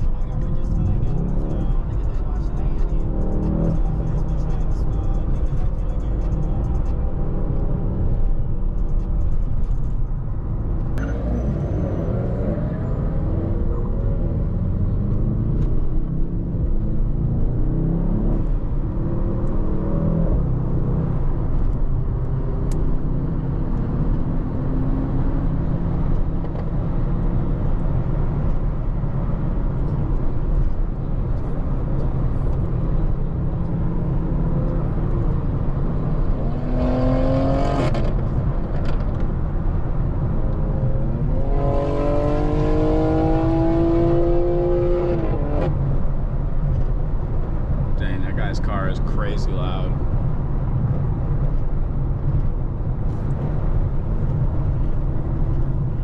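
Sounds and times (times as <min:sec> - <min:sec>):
car engine cruising: 0:00.0 - 0:56.0
road rumble: 0:00.0 - 0:56.0.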